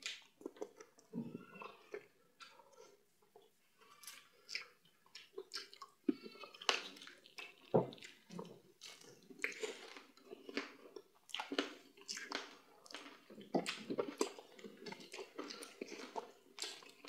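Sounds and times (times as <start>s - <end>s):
wet chewing and squishing: 0.0s - 17.0s.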